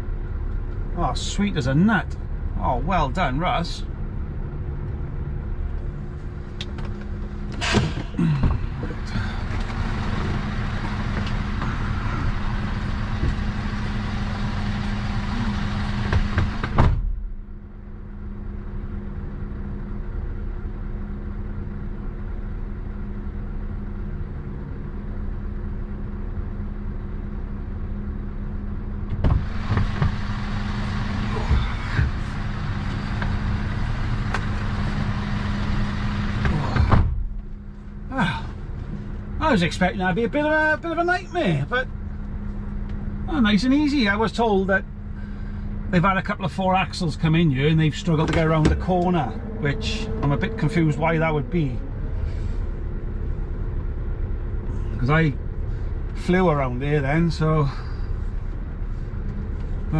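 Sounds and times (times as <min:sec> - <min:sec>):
lorry engine humming: 0:00.0 - 0:59.9.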